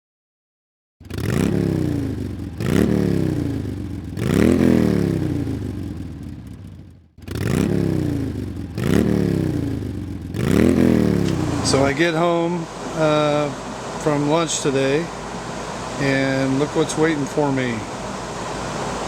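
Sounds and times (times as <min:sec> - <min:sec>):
motorcycle engine revving in blips: 0:01.0 - 0:19.0.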